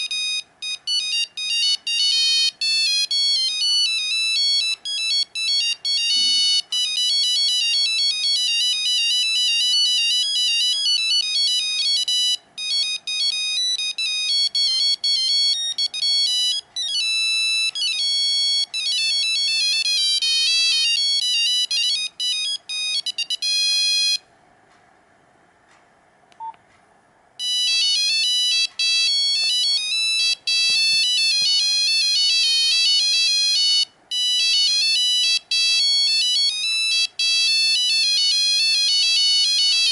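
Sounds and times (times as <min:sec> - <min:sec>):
monophonic phone ringtone beeping: 0:00.0 - 0:24.2, 0:27.4 - 0:39.9.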